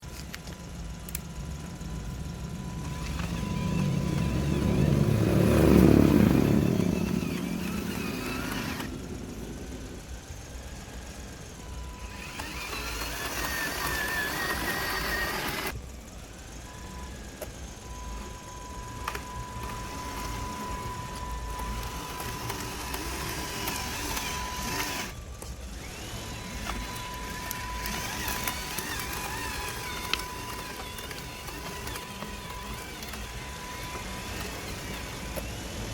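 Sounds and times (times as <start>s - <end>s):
model truck motor whining: 0.0s - 35.9s.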